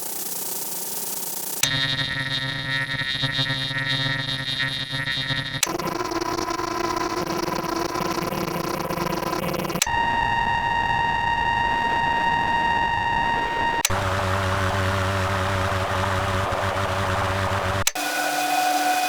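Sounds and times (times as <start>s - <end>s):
crackling electronic static: 0.0s - 17.9s
high-pitched whine: 1.6s - 19.0s.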